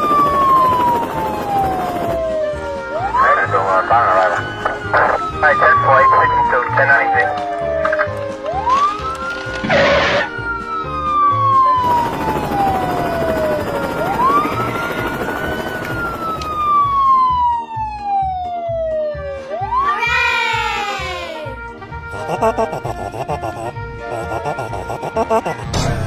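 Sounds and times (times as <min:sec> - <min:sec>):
police siren wailing: 0:00.0 - 0:25.7.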